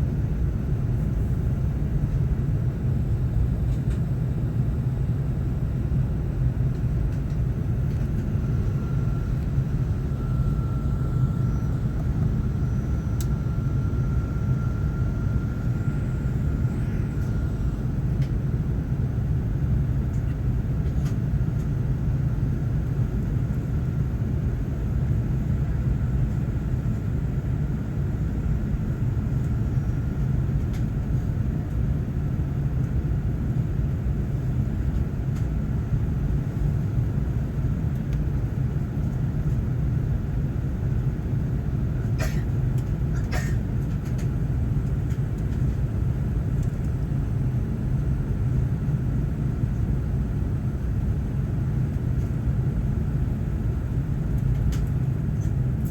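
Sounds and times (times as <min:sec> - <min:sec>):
aircraft cabin rumble and hum: 0:00.0 - 0:55.9.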